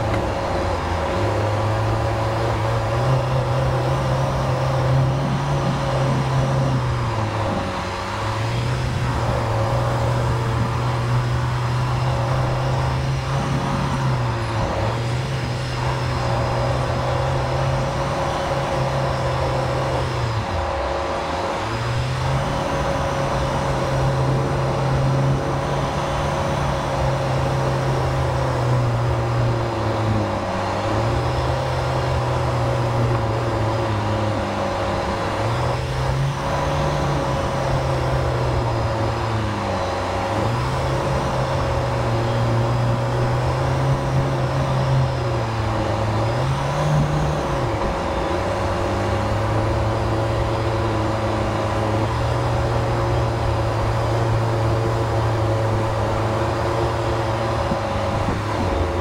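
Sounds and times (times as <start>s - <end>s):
car engine at low revs: 0.0s - 59.0s.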